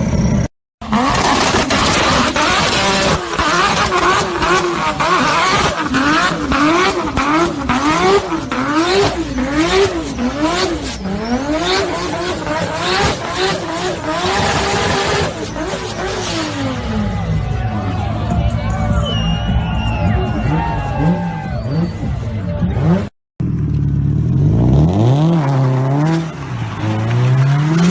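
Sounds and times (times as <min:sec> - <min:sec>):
car engine revving: 0:00.0 - 0:18.7, 0:20.0 - 0:27.9.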